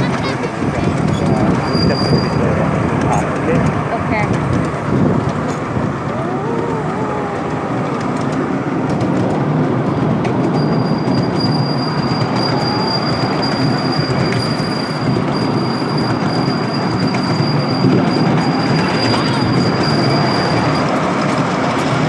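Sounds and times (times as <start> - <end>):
train wheels clattering on rail: 0.0 - 22.0.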